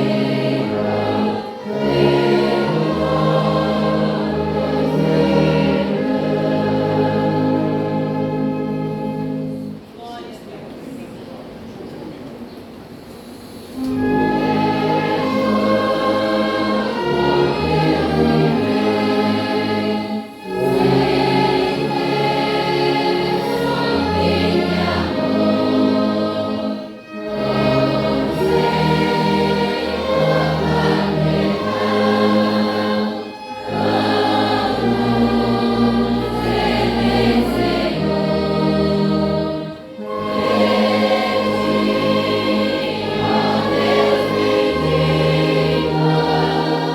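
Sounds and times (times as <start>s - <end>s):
voices singing a hymn: 0.0s - 9.8s, 13.8s - 46.9s.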